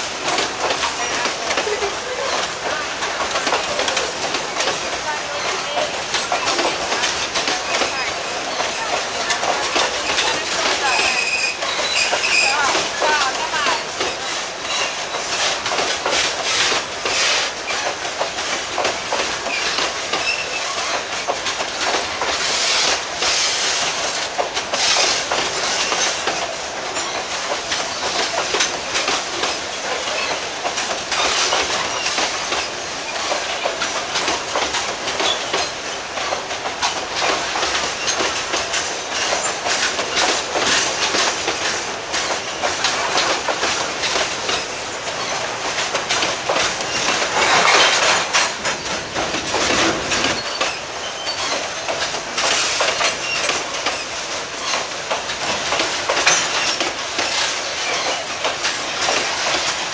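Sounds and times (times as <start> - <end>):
freight train wheels clacking: 0.0 - 59.9.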